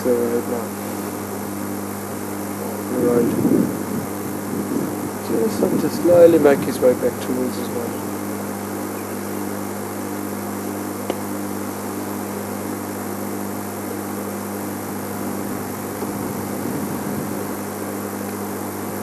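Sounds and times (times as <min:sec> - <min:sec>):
constant hiss: 0:00.0 - 0:19.0.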